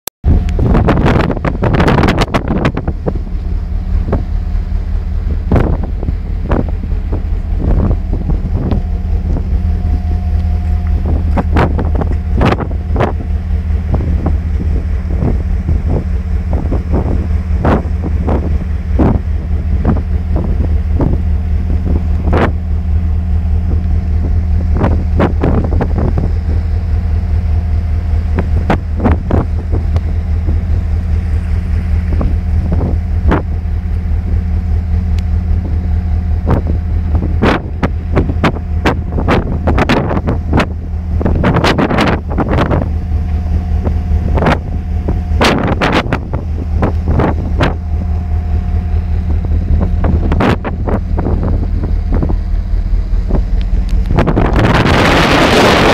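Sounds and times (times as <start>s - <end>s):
ship engine drone: 0.2s - 55.9s.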